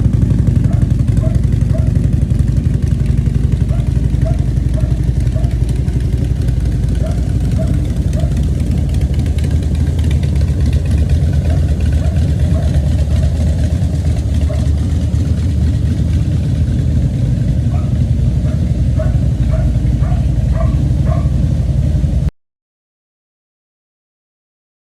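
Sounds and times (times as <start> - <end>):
motorcycle engine idling: 0.0 - 22.3.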